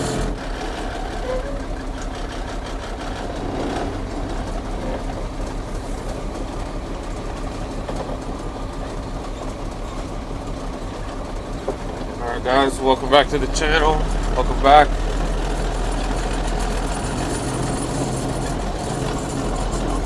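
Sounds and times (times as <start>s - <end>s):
diesel truck engine running: 0.0s - 20.0s
rattles and clicks: 0.0s - 20.0s.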